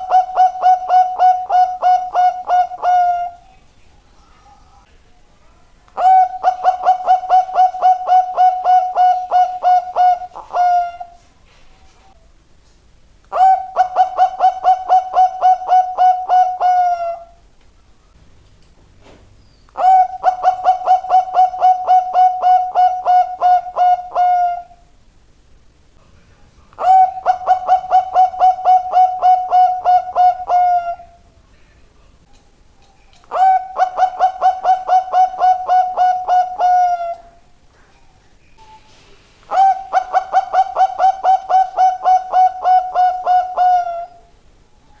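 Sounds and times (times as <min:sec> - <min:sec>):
dove cooing: 0:00.0 - 0:04.9, 0:06.0 - 0:12.2, 0:13.3 - 0:17.4, 0:19.8 - 0:24.9, 0:26.8 - 0:31.3, 0:32.8 - 0:45.0.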